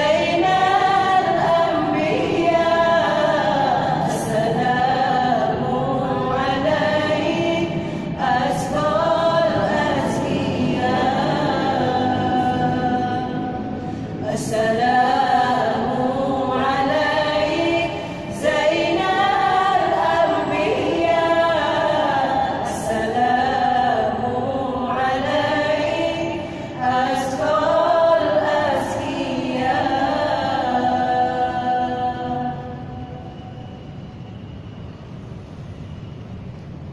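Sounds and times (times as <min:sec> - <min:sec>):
women singing together: 0:00.0 - 0:34.0.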